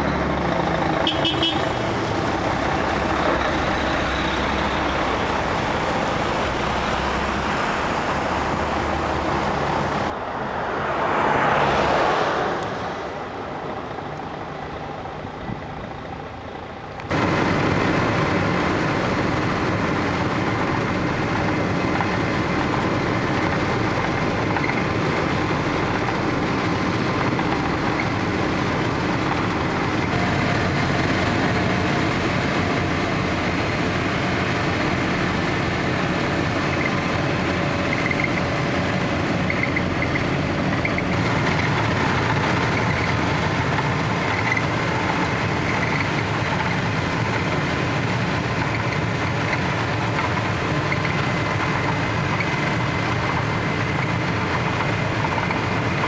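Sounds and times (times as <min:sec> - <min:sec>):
asphalt paver running: 0:00.0 - 0:10.2, 0:12.9 - 0:56.0.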